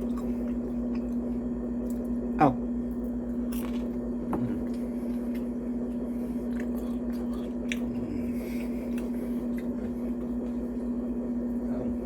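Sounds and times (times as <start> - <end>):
person chewing crunchy food: 0.0 - 2.3, 3.0 - 11.3
low hum: 0.0 - 12.0.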